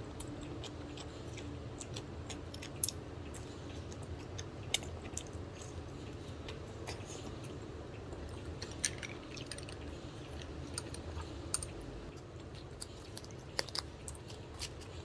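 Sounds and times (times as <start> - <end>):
chewing and mouth clicks: 0.0 - 15.0.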